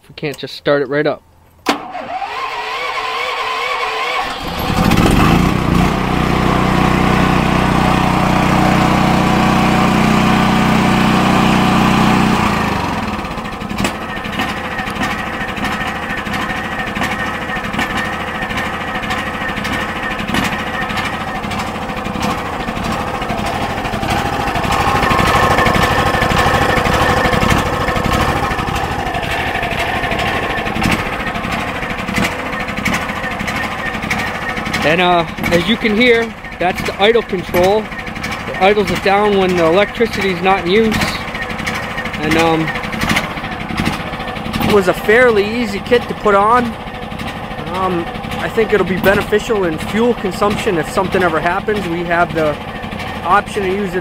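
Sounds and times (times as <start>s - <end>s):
generator engine running: 1.6s - 54.0s
generator engine starting: 1.6s - 54.0s.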